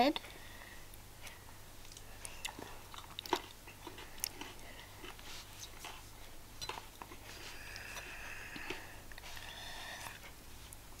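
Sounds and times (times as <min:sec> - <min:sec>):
person chewing salad: 0:01.8 - 0:10.8.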